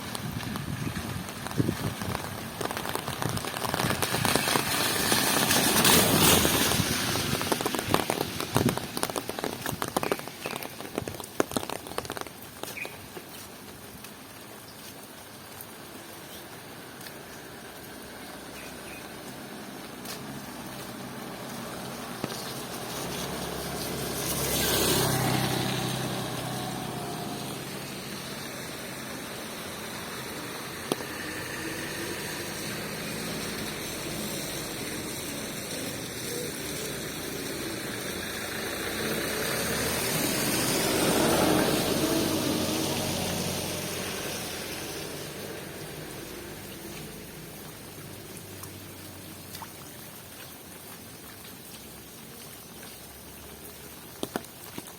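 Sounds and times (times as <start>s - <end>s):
vehicles passing: 0.0s - 50.7s
steady rain: 0.0s - 54.9s.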